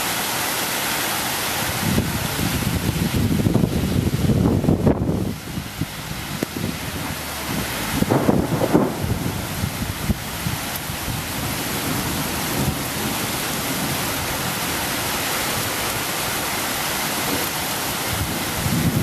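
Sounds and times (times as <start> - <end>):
heavy rain pouring: 0.0 - 19.0
wind gusts on microphone: 1.5 - 19.0.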